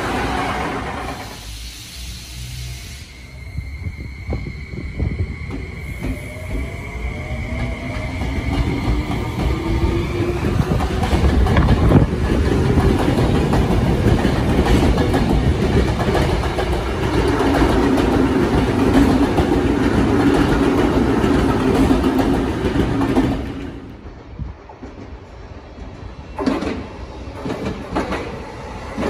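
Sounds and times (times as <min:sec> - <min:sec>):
electric train rumbling past: 0:00.0 - 0:29.0.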